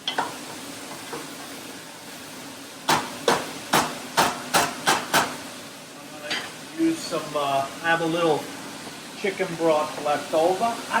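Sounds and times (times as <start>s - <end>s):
vegetables sizzling in pot: 0.0s - 11.0s.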